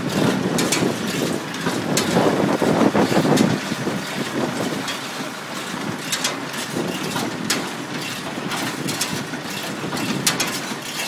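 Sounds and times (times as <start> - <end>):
hay baler rattling: 0.0 - 11.0.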